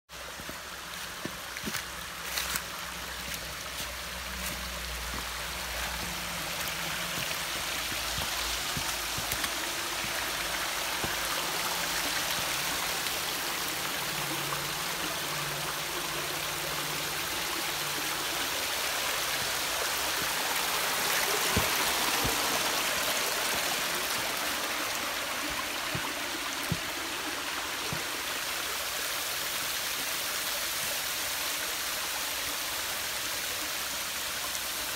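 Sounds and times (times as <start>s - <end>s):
creek water splashing over rocks: 0.1s - 34.9s.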